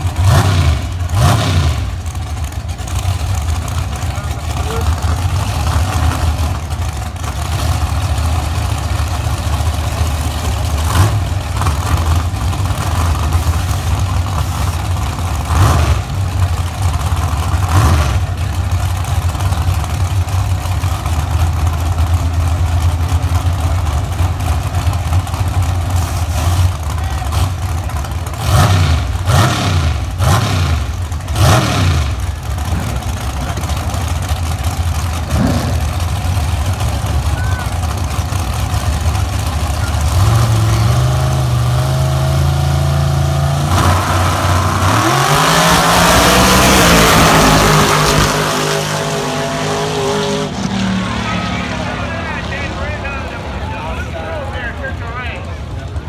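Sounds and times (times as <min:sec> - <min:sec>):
engine throttle blips and revs: 0:00.0 - 0:56.0
race car engines idling: 0:00.0 - 0:56.0.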